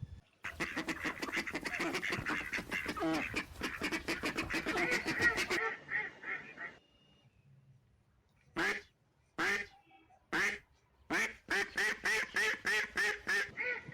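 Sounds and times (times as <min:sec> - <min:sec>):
ducks quacking: 0:00.4 - 0:06.8, 0:08.6 - 0:13.9.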